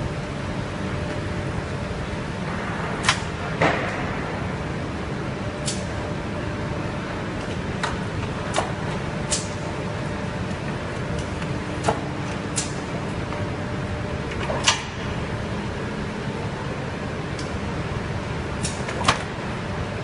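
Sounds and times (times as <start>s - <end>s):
conveyor mechanical hum: 0.0s - 20.0s.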